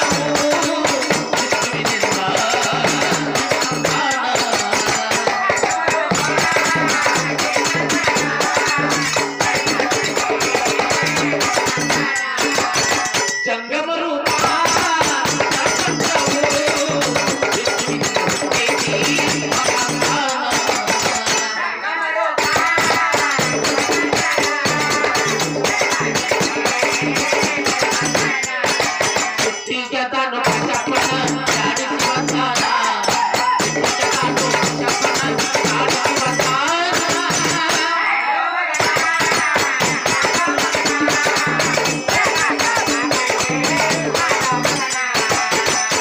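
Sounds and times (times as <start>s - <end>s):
jingling hand percussion: 0.0s - 46.0s
man singing: 0.0s - 46.0s.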